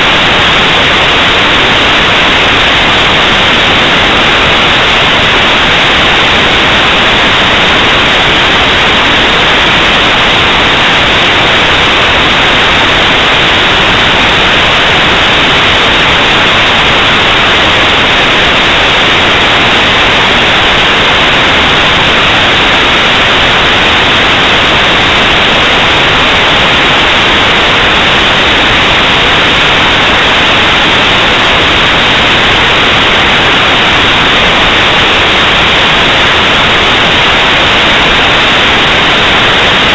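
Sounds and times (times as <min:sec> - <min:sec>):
static noise hiss: 0:00.0 - 0:39.9.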